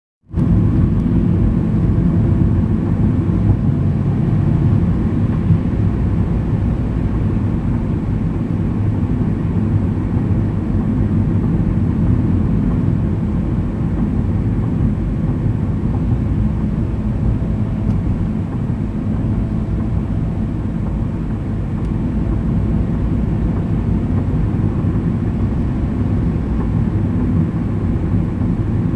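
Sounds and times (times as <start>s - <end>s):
engine and tyre rumble: 0.3s - 28.9s.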